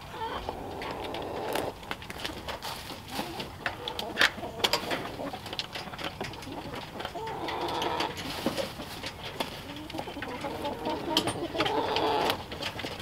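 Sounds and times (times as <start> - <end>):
chicken drawn-out calls: 0.0 - 12.8
chickens clucking: 0.0 - 13.0.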